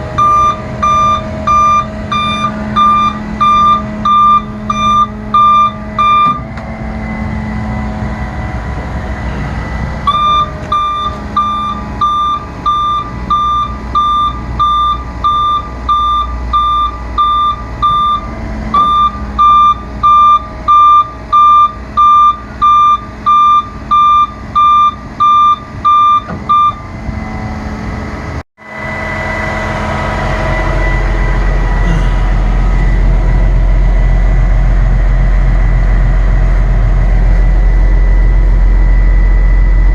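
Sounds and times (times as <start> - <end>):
truck back-up alarm beeping: 0.0 - 8.0, 10.0 - 27.6, 28.7 - 35.8, 37.5 - 39.9
diesel engine idling: 0.0 - 39.9.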